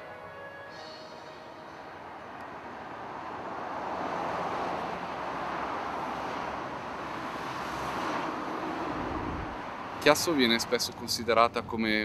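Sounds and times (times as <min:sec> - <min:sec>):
motorway traffic rushing: 0:00.0 - 0:12.0.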